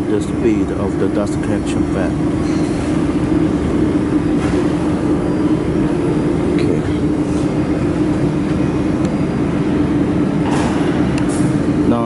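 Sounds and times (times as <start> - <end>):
dust collection fan humming: 0.0 - 12.0.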